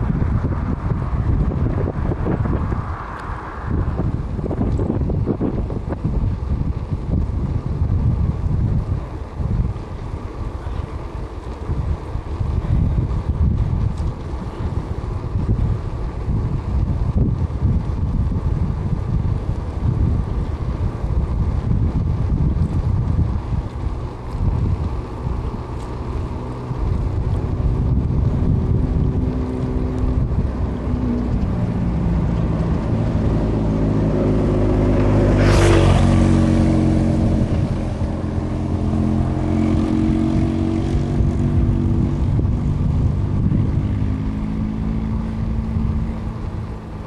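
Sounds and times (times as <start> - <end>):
vehicle engine running: 0.0 - 47.0
wind noise on microphone: 0.0 - 47.0.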